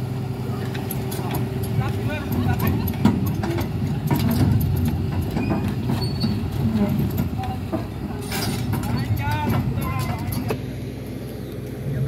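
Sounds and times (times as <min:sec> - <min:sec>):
diesel engine rumble: 0:00.0 - 0:12.0.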